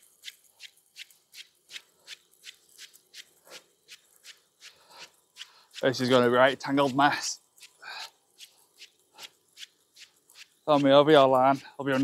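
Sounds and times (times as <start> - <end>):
fishing reel ticking: 0.0 - 12.0.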